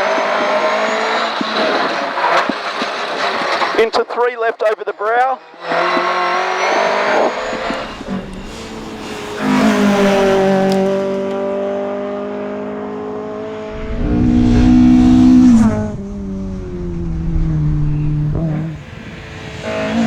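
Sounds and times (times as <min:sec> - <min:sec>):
car engine accelerating through gears: 0:00.0 - 0:03.8, 0:05.6 - 0:20.0.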